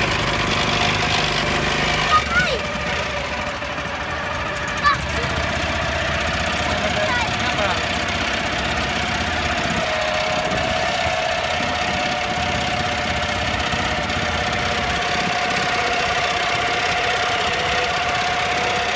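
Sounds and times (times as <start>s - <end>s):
boat engine running: 0.0s - 18.9s.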